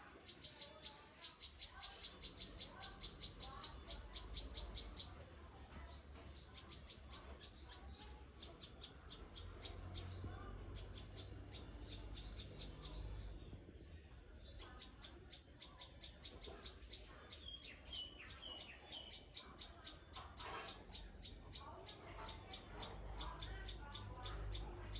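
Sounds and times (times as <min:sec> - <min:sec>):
birds chirping rapidly: 0:00.0 - 0:24.9.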